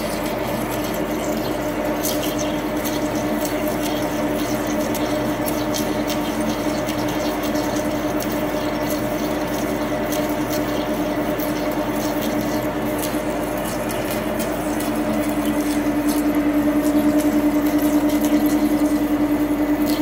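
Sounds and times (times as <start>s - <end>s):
coolant hiss: 0.0s - 20.0s.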